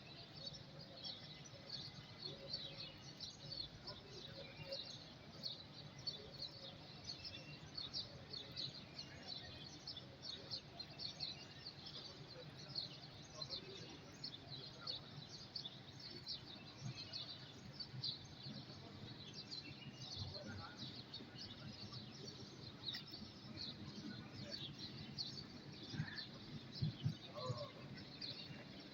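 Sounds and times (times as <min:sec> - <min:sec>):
outdoor background noise: 0:00.0 - 0:28.9
small birds chirping: 0:00.0 - 0:28.9.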